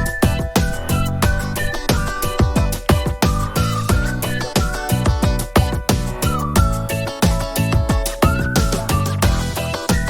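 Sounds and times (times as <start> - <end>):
electronic background music: 0.0 - 10.0.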